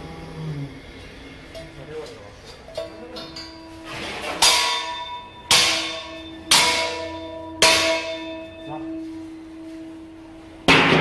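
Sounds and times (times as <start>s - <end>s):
metal clanging: 1.6s - 11.0s.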